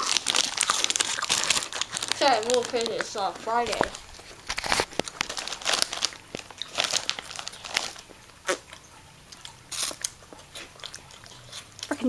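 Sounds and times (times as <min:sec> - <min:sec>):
crunchy snack being eaten: 0:00.0 - 0:12.0
snack bag crinkling: 0:00.0 - 0:12.0.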